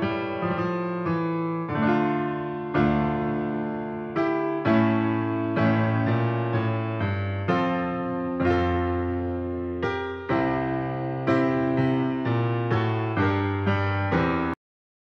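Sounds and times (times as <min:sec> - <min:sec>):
slow piano chords: 0:00.0 - 0:14.6.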